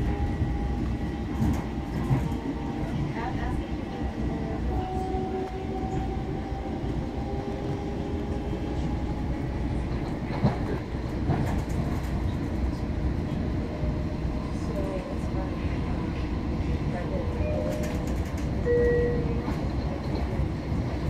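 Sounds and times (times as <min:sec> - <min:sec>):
wheels rumbling on track: 0:00.0 - 0:21.0.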